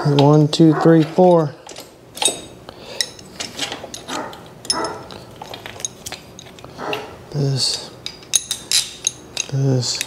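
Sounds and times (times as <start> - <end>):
wrench and bolts clinking: 1.0 - 10.0.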